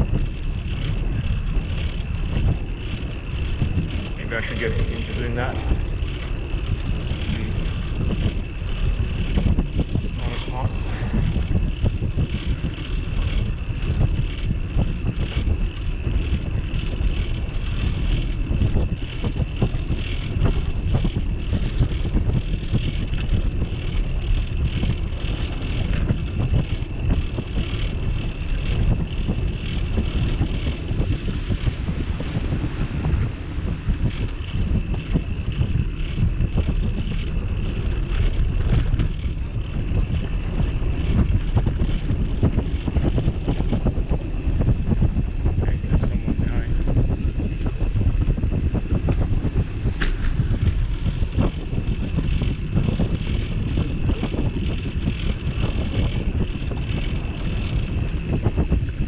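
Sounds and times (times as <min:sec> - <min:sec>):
bicycle rattles and ticks: 0:00.0 - 0:59.0
wind buffeting microphone: 0:00.0 - 0:59.0.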